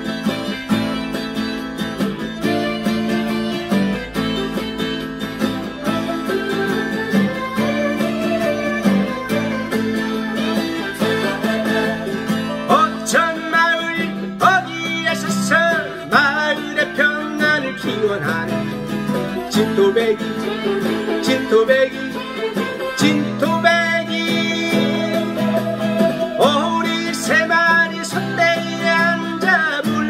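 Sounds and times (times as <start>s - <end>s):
acoustic guitar strumming: 0.0s - 30.0s
man singing: 5.7s - 30.0s.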